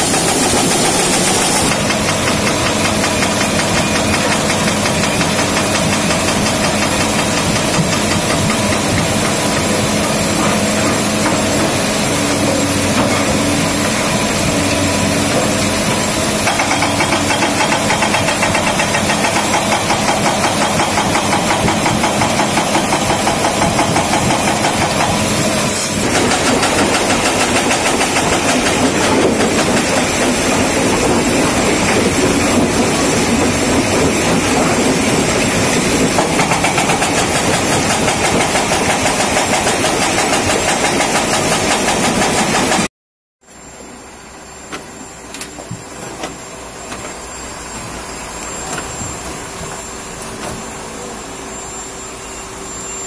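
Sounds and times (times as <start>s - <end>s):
diesel engine under load: 0.0s - 42.9s
hydraulic breaker hammering stone: 0.0s - 42.9s.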